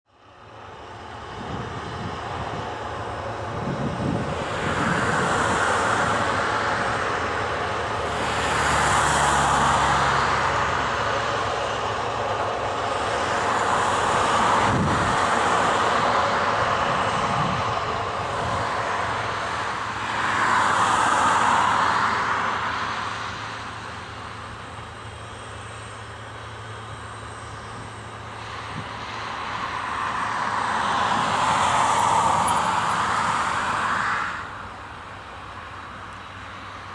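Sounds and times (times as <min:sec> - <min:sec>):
distant jet engines rushing: 0:00.1 - 0:36.9.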